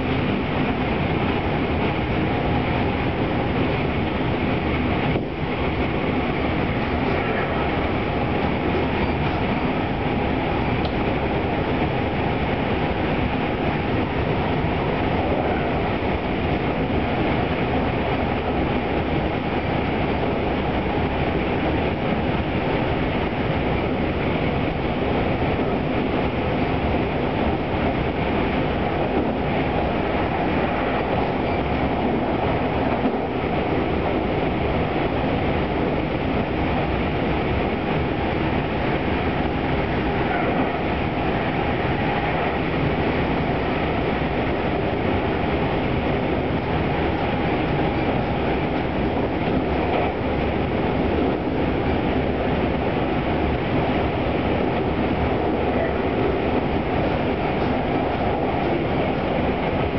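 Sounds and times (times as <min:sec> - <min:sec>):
train wheels and track rumble: 0:00.0 - 0:59.9.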